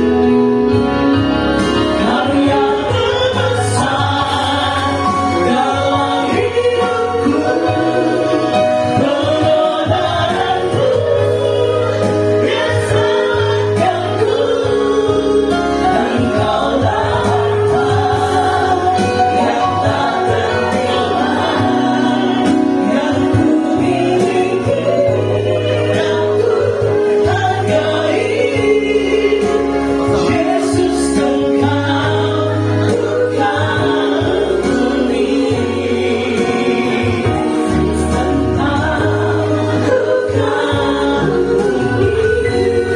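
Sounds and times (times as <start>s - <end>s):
choir singing a hymn: 0.0s - 42.9s
low bass accompaniment: 0.0s - 42.9s.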